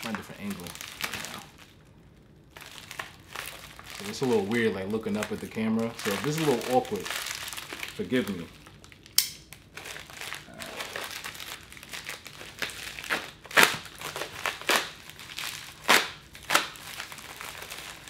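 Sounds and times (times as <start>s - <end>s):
plastic mailer crinkling: 0.0s - 1.8s, 2.5s - 18.0s.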